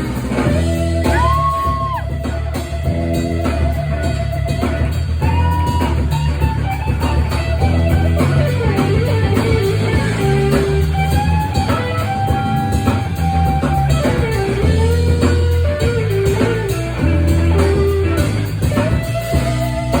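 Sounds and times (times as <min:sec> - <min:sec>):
bass guitar: 0:00.0 - 0:20.0
electric guitar lead: 0:00.0 - 0:20.0.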